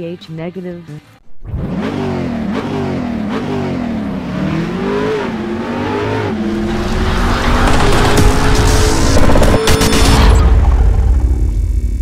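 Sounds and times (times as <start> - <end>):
car engine revving: 1.4 - 11.6.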